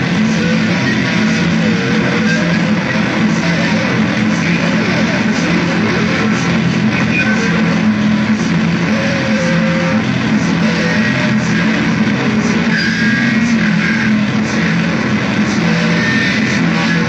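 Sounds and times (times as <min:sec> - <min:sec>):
distorted guitar music: 0:00.0 - 0:17.0.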